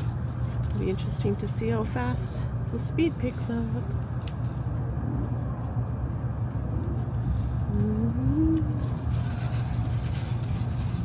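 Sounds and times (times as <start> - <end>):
train carriage low hum: 0.0 - 11.0.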